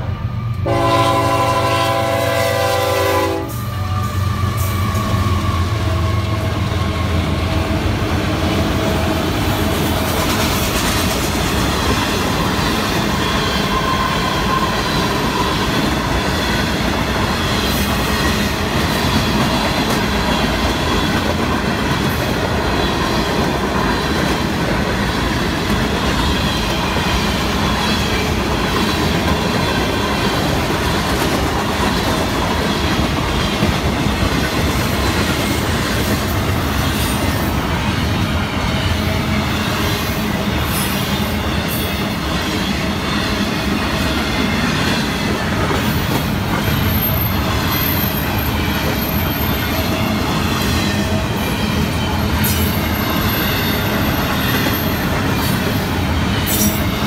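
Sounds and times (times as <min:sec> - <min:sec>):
train wheels clattering on rails: 0:04.0 - 0:57.0.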